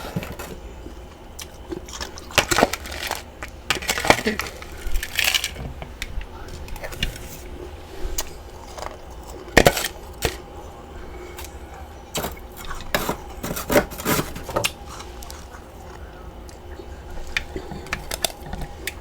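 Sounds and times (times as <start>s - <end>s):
frost being chewed crunches: 0.0s - 19.0s.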